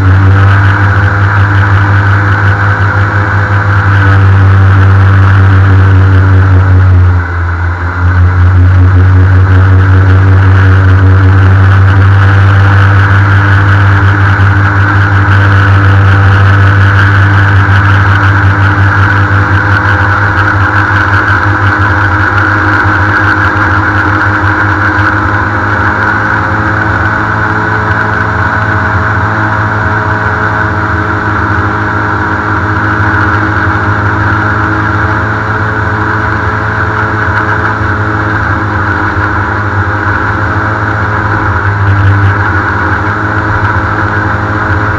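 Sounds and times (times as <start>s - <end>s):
airboat engine and propeller drone: 0.0s - 44.9s.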